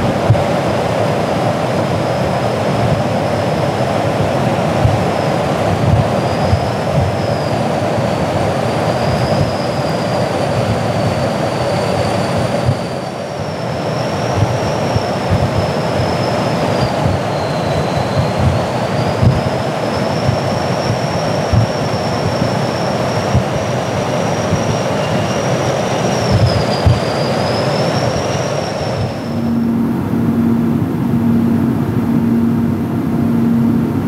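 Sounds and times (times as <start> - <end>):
aircraft engines roaring: 0.0 - 34.0
high whine: 0.0 - 34.0.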